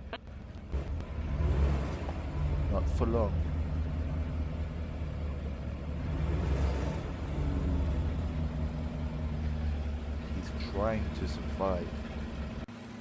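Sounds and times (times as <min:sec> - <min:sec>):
car engine running at low speed: 0:00.0 - 0:13.0.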